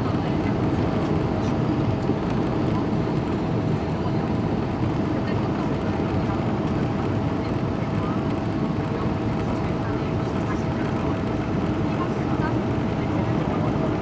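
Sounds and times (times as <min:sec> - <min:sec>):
aircraft engine and airflow rumble: 0:00.0 - 0:14.0.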